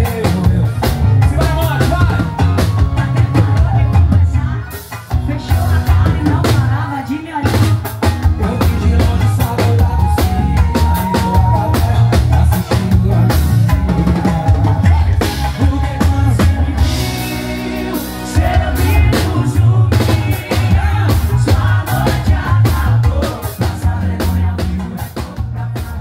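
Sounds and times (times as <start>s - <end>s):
bass guitar: 0.0s - 26.0s
drum kit beat: 0.0s - 26.0s
live band playing: 0.0s - 26.0s.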